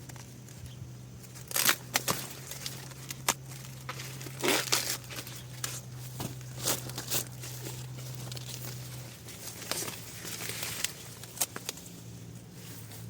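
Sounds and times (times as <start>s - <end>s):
crinkling and tearing: 0.0s - 13.0s
low hum: 0.0s - 13.0s.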